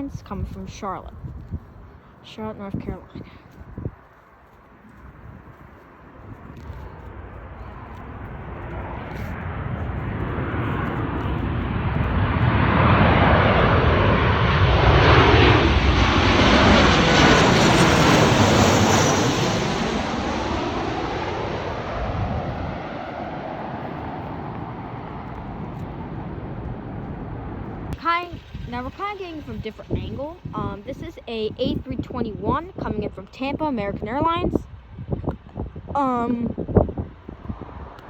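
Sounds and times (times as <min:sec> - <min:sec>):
jet airliner passing overhead: 0:03.1 - 0:33.1, 0:36.5 - 0:38.0.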